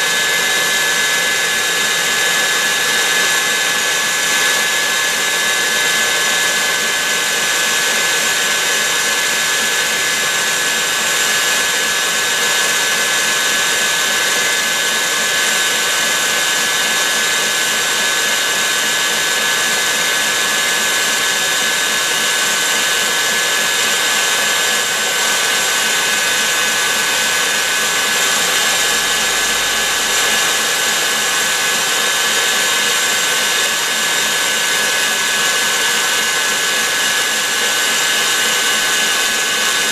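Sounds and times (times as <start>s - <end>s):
stand mixer whining: 0.0s - 39.9s.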